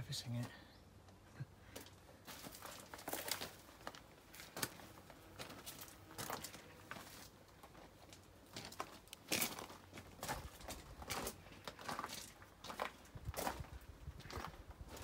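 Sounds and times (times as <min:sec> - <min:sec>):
footsteps crunching on gravel: 0:01.7 - 0:15.0.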